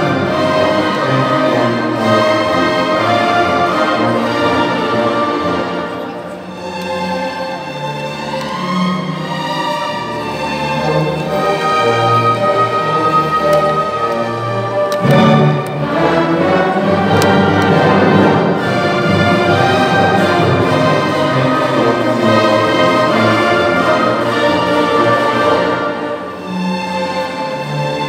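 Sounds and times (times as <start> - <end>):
symphony orchestra playing: 0.0 - 28.0.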